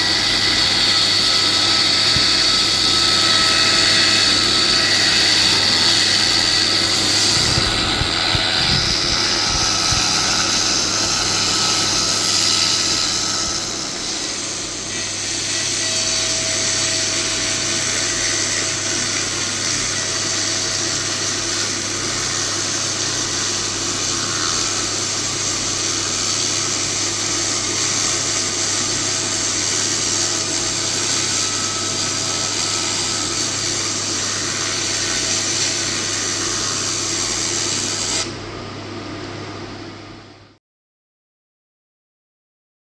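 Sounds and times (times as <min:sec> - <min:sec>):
laser cleaner hissing buzz: 0:00.0 - 0:38.4.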